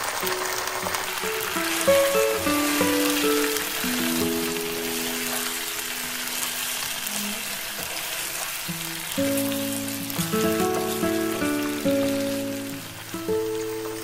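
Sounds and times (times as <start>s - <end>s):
meat sizzling in hot oil: 0.0s - 14.0s
soft background music: 0.4s - 14.0s.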